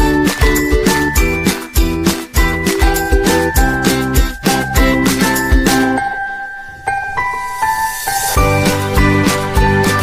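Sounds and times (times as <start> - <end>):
background music with tinkling melody: 0.0 - 10.0.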